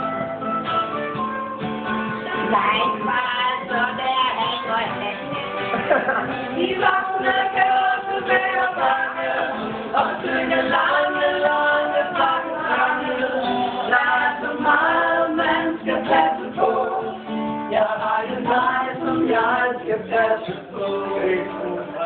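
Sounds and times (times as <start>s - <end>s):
group of people singing: 2.3s - 22.0s.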